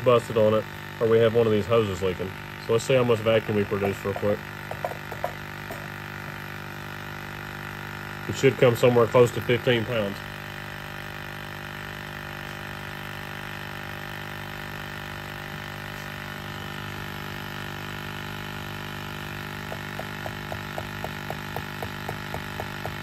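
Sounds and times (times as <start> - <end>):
electric vacuum pump running: 0.0 - 23.0.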